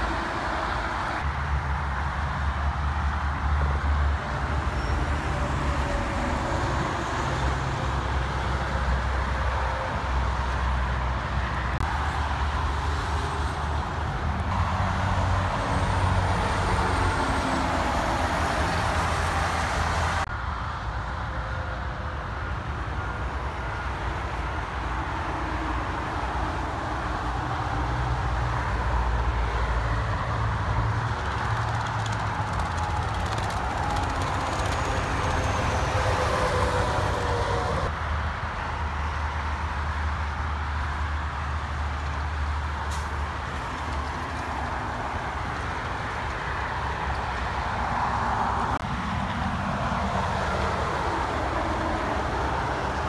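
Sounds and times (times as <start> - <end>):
highway traffic passing: 0.0 - 53.0.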